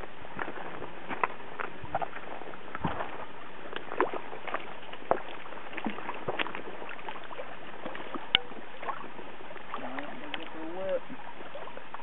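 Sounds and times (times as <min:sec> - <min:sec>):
river water lapping and splashing: 0:00.0 - 0:12.0.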